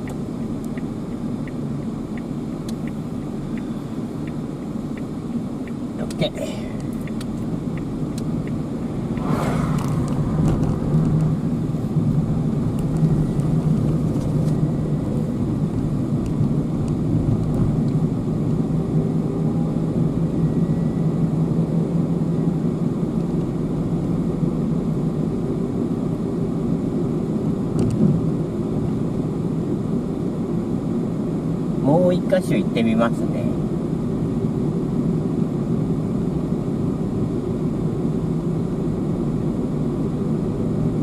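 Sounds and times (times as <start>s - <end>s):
car engine rumble: 0.0s - 41.0s
road noise: 0.0s - 41.0s.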